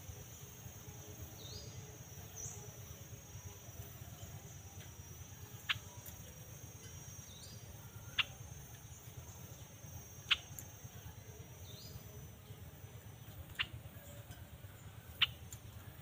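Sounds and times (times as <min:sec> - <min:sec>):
crickets chirring: 0:00.0 - 0:16.0
faint chirps: 0:00.0 - 0:16.0.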